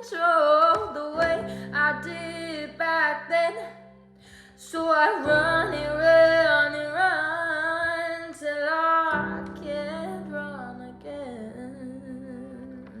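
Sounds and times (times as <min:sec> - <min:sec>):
woman singing wordless line: 0:00.0 - 0:13.0.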